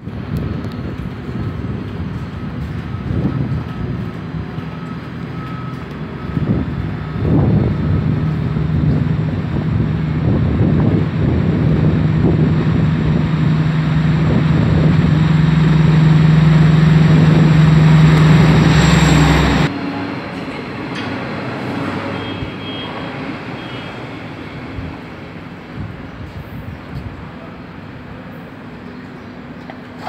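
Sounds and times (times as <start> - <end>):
diesel locomotive engine droning: 0.0 - 30.0
train coaches rolling: 0.0 - 30.0.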